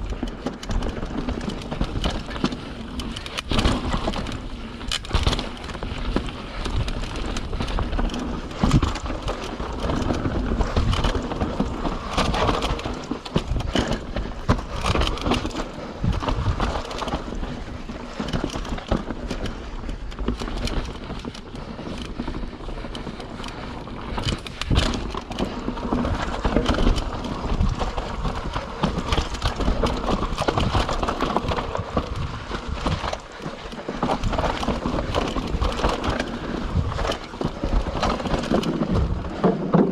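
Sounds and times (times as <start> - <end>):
bike knocking and rattling: 0.0 - 39.9
bike tyres on dirt and rock: 0.0 - 39.9.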